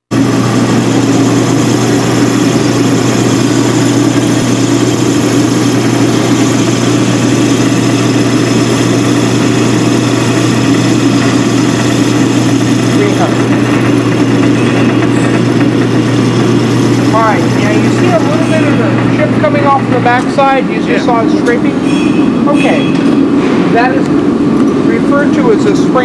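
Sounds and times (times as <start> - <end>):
lathe machine drone: 0.1 - 26.0.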